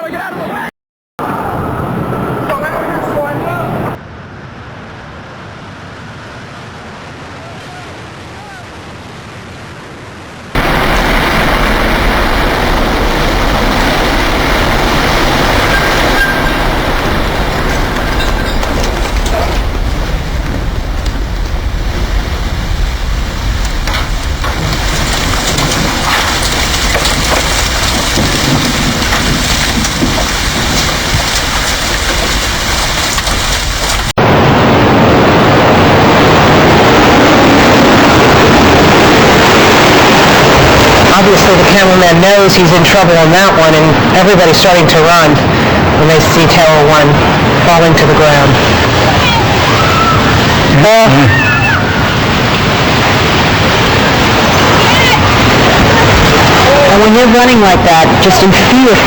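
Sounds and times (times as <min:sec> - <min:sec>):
building collapsing roar: 0:01.2 - 0:07.8, 0:10.5 - 0:59.0.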